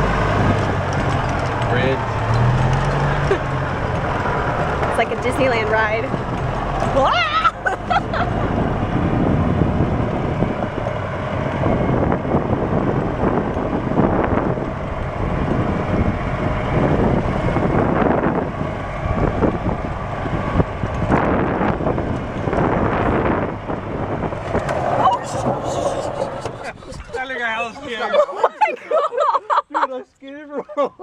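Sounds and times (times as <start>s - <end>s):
wind buffeting microphone: 0.0s - 7.0s, 7.6s - 28.0s
golf cart running: 0.0s - 29.7s.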